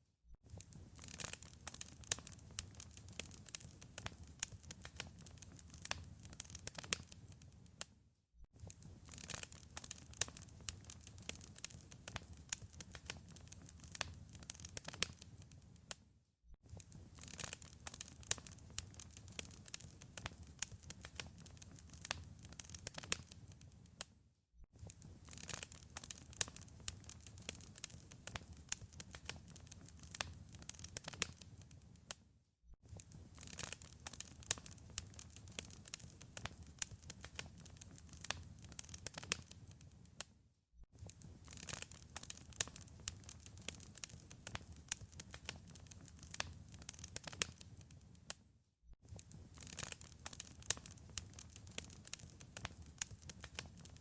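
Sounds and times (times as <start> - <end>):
wood fire crackling: 0.5 - 7.8, 8.6 - 16.0, 16.7 - 24.1, 24.8 - 32.1, 32.9 - 40.3, 41.0 - 48.3, 49.1 - 54.0.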